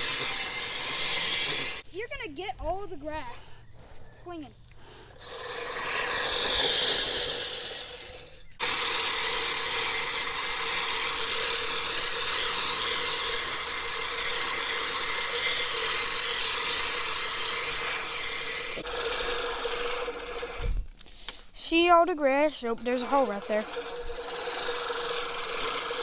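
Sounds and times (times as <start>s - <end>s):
reel mower whirring over grass: 0.0s - 2.2s, 5.2s - 21.0s, 21.6s - 26.0s.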